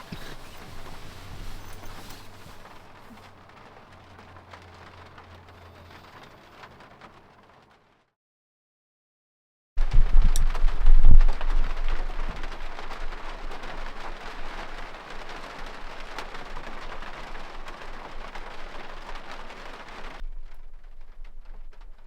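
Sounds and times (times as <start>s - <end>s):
rain pattering on camper roof: 0.0s - 8.1s, 9.8s - 22.0s.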